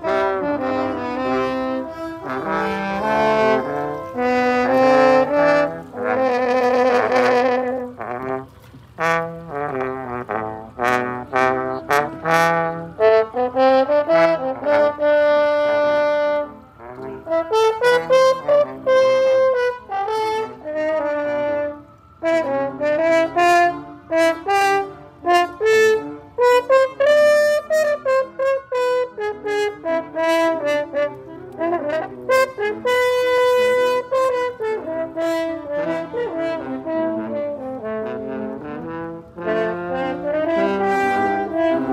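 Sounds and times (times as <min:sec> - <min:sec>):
french horns playing: 0:00.0 - 0:41.9.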